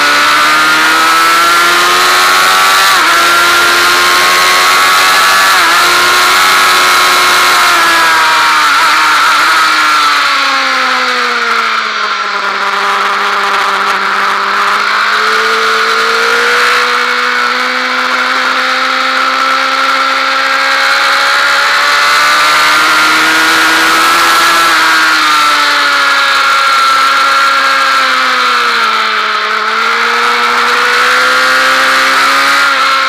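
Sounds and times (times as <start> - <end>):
motorcycle engine at speed: 0.0 - 33.0.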